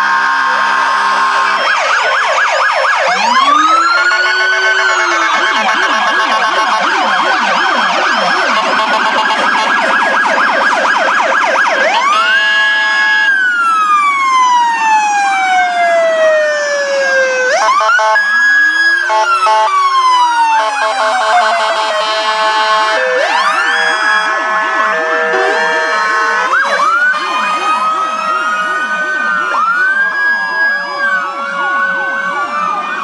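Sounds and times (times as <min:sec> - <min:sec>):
sirens wailing: 0:00.0 - 0:33.0
sirens yelping: 0:00.0 - 0:33.0.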